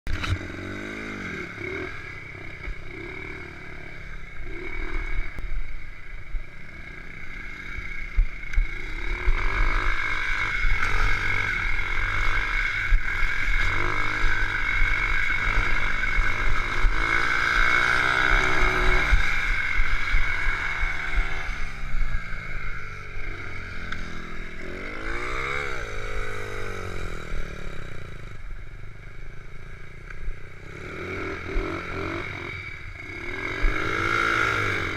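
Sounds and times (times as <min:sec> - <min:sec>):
small motorbike engine revving: 0:00.1 - 0:05.7, 0:06.6 - 0:34.9.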